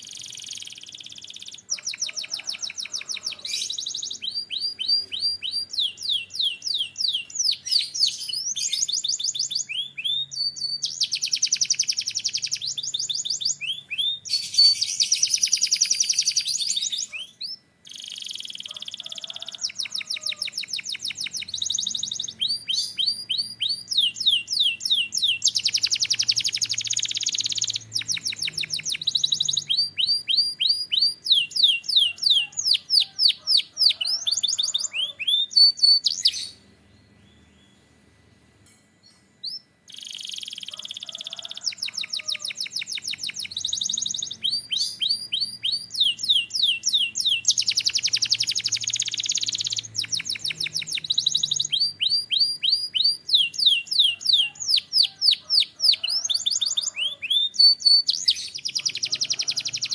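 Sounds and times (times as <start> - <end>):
canary singing trills: 0.0 - 38.0, 39.0 - 59.9.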